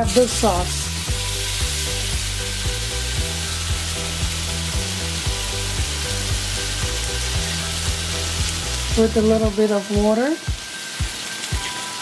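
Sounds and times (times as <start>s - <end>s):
background music with bass: 0.0s - 9.6s
sauce sizzling in a frying pan: 0.0s - 12.0s.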